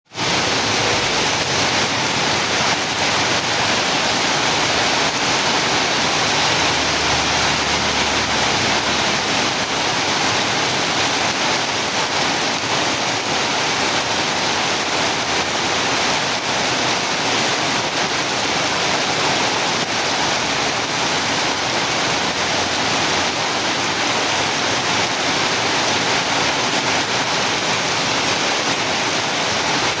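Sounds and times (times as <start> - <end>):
heavy rain pouring: 0.1 - 30.0.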